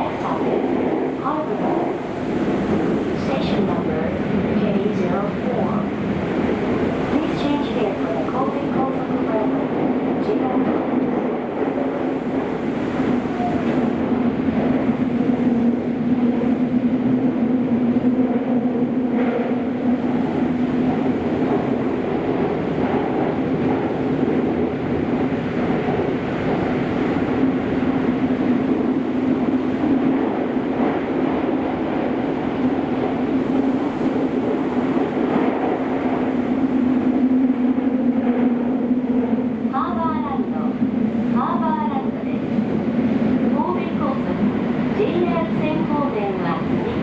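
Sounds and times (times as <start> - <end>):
train running in tunnel: 0.0 - 47.0.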